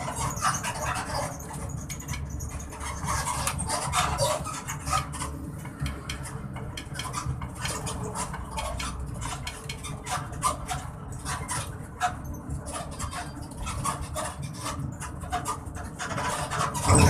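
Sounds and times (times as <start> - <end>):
bus suspension creaking: 0.0 - 17.0
low rumble of moving bus: 0.0 - 17.0.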